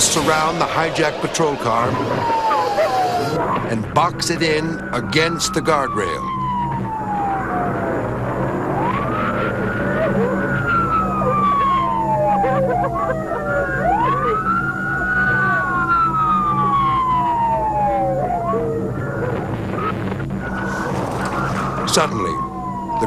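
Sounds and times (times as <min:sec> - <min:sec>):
police sirens wailing: 0:00.0 - 0:23.0.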